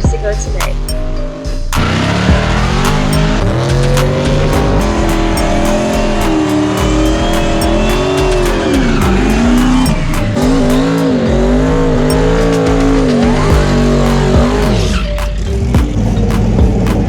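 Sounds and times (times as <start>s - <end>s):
music with steady beat: 0.0s - 17.0s
race car engine revving: 1.8s - 17.0s.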